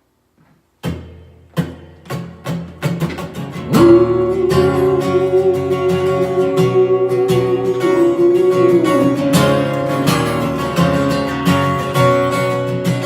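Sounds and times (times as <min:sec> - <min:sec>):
acoustic guitar strumming: 0:00.8 - 0:13.0.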